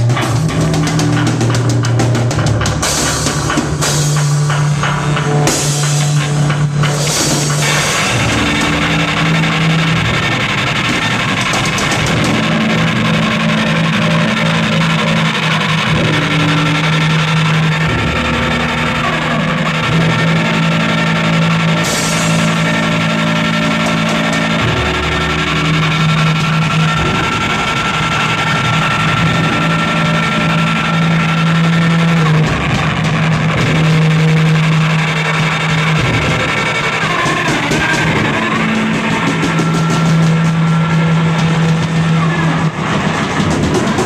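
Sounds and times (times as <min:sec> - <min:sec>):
distorted live rock music: 0:00.0 - 0:44.0.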